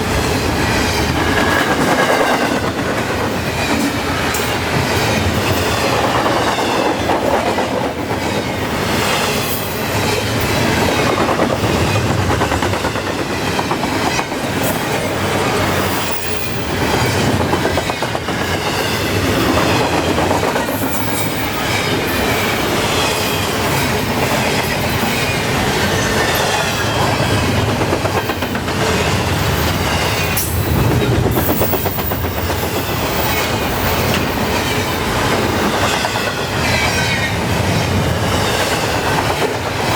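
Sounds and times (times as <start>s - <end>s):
freight train wheels clacking on rails: 0.0s - 39.9s.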